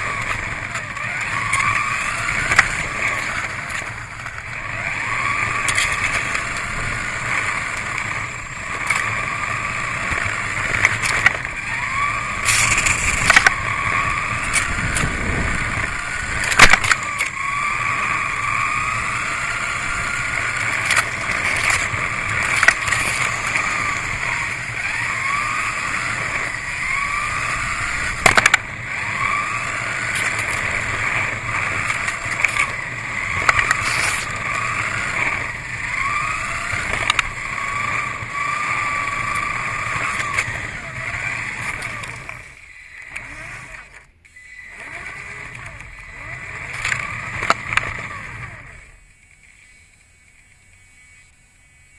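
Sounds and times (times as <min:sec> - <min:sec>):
sharp clicks: 0:00.0 - 0:04.5, 0:05.2 - 0:17.5, 0:18.5 - 0:51.3
rc car electric motor whining: 0:00.0 - 0:51.9.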